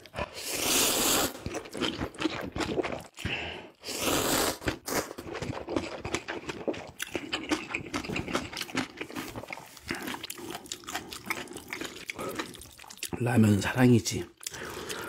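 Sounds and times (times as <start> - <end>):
person slurping noodles: 0.0 - 13.0
wet chewing: 0.0 - 13.2, 14.2 - 15.0.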